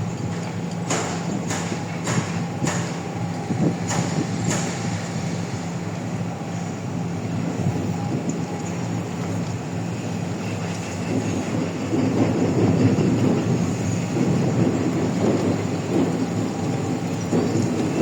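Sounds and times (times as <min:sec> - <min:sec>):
heavy working rumble: 0:00.0 - 0:18.0.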